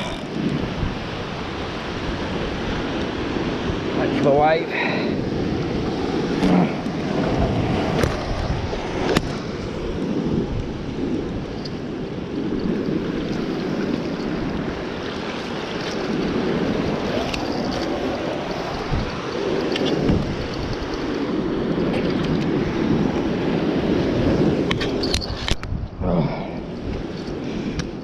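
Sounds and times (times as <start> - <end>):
surf washing over rocks: 0.0 - 28.0
wind on microphone: 0.0 - 28.0.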